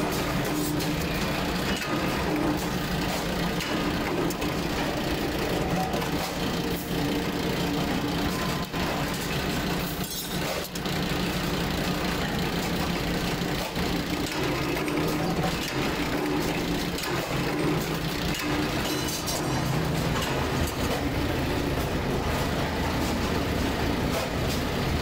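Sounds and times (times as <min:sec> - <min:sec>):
press machinery humming: 0:00.0 - 0:25.0.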